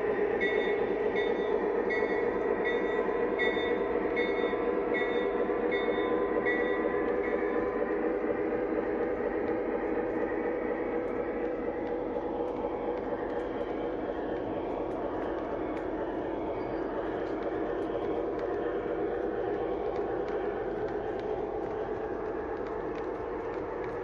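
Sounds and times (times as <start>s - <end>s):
model train wheels rumbling on rails: 0.0s - 24.0s.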